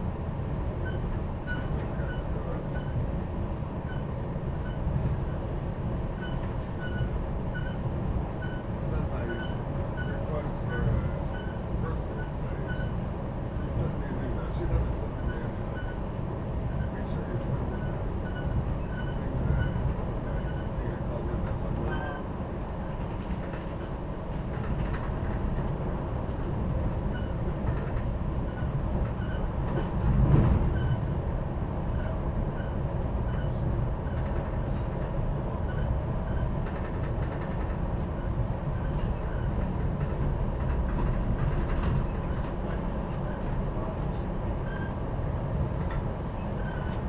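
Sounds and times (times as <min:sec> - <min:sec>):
train rumbling on track: 0:00.0 - 0:47.0.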